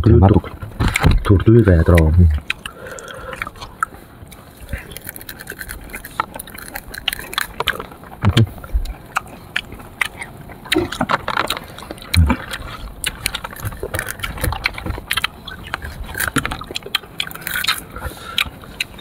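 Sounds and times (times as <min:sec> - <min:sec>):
wet chewing and crunching: 0:00.0 - 0:19.0.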